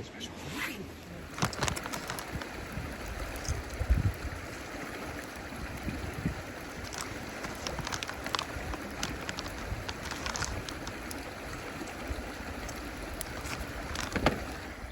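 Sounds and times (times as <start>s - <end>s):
running water: 0.4s - 14.9s
wind on microphone: 0.7s - 14.9s
light clicks and crackles: 1.2s - 14.7s.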